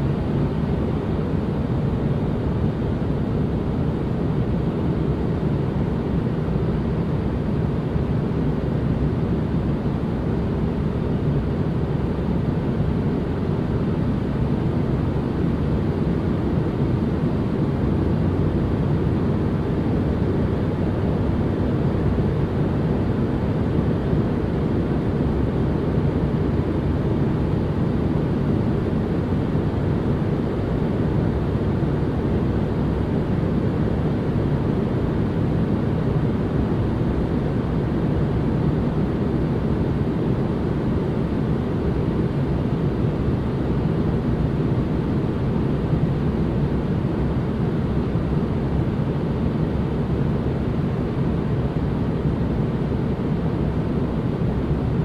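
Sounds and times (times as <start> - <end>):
deep even white-noise rumble: 0.0 - 55.0.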